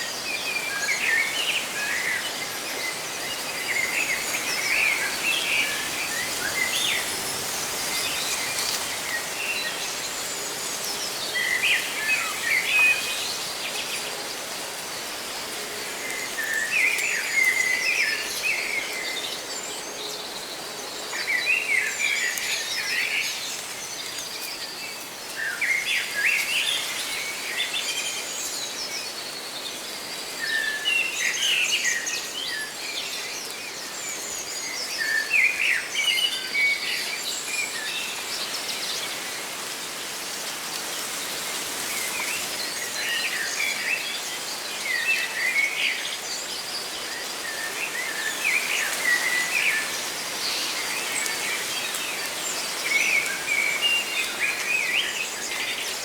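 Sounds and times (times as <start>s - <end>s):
leaves rustling in wind: 0.0s - 56.0s
songbirds chirping: 0.0s - 56.0s.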